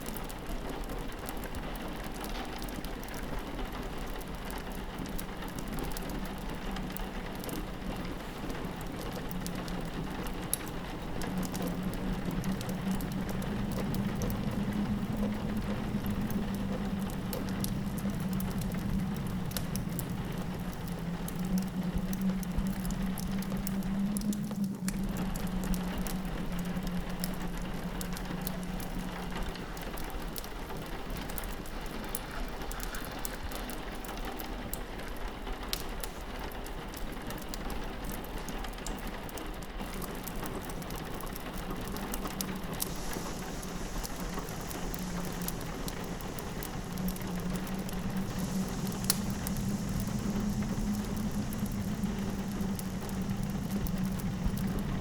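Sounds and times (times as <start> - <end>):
rain pattering on window: 0.0 - 55.0
wind moaning low: 4.6 - 36.9, 39.7 - 55.0
fireplace crackling: 5.2 - 37.6, 38.8 - 55.0.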